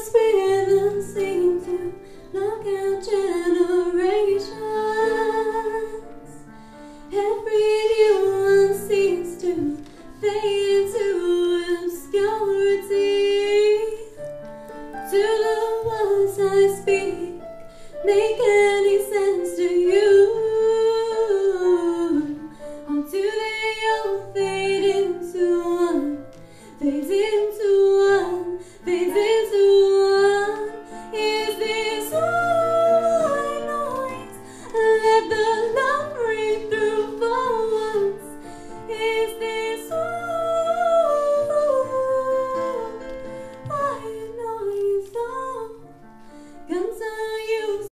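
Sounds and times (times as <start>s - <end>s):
woman singing into a microphone: 0.0s - 6.2s, 7.1s - 14.2s, 15.1s - 17.4s, 18.0s - 45.9s, 46.7s - 47.9s.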